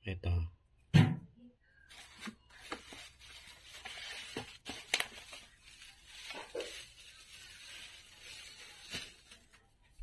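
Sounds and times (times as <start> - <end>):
bubble wrap crinkling: 1.9 - 10.0.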